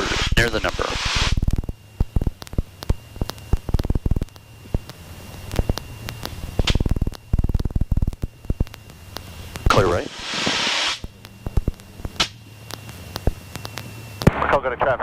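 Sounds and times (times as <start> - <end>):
faint steady tone: 0.0 - 15.0
intercom crackling clicks: 0.4 - 14.6.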